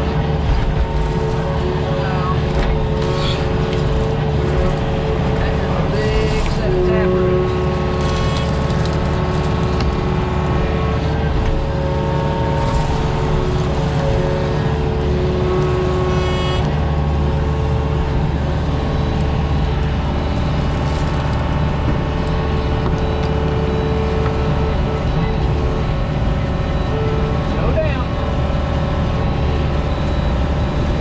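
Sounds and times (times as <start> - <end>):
excavator diesel engine running: 0.0 - 31.0
hydraulic whine: 0.0 - 31.0.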